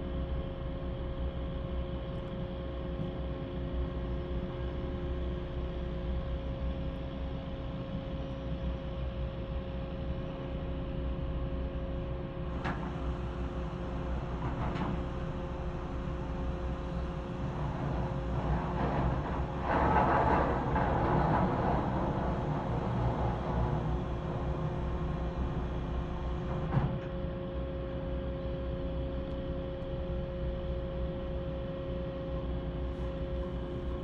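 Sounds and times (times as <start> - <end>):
drilling machinery rumble and hum: 0.0 - 34.0.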